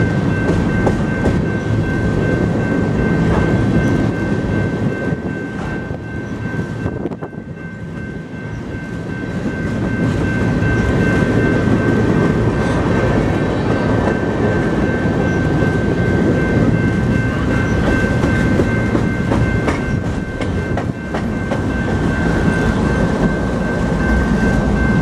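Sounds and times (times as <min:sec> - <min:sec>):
steady high tone: 0:00.0 - 0:25.0
train wheels clattering on rails: 0:00.0 - 0:25.0.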